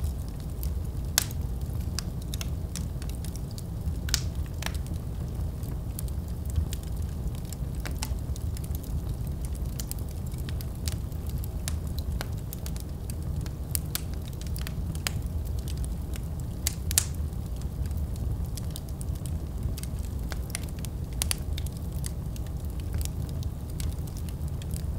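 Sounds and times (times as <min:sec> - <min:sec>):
low rumble of flames: 0:00.0 - 0:24.9
wood fire popping and snapping: 0:00.0 - 0:24.9.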